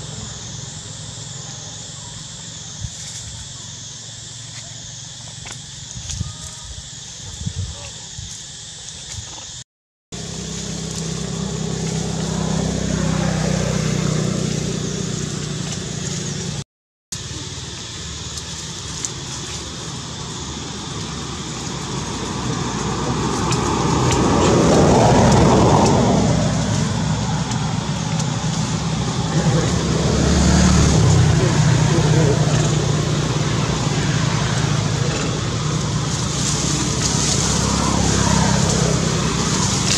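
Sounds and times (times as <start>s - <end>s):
passing traffic: 0.0s - 4.6s, 10.2s - 16.6s, 17.2s - 39.9s
vehicle engine humming: 0.0s - 7.2s, 9.4s - 39.9s.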